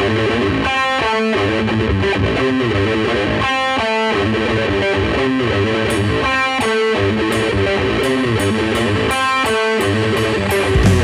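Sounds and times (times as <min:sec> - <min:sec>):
distorted electric guitar riff: 0:00.0 - 0:11.0.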